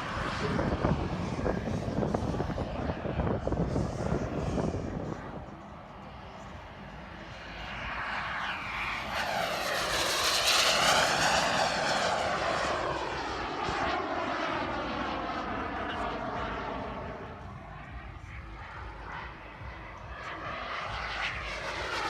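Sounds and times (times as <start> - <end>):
model jet turbine flying past: 0.0 - 22.0.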